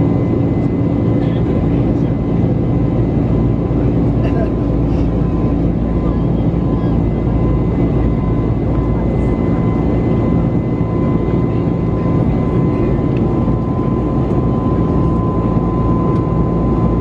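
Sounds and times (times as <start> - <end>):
airplane cabin engine rush: 0.0 - 17.0
constant high whine: 0.0 - 17.0.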